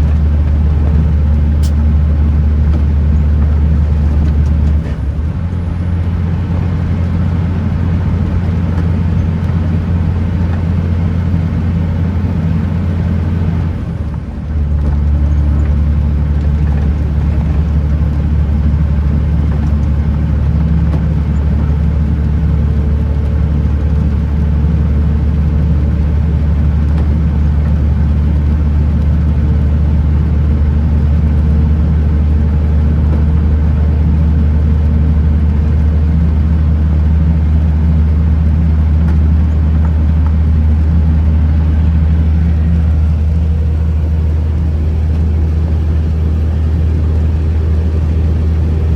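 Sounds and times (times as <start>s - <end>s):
truck diesel engine droning: 0.0s - 48.9s.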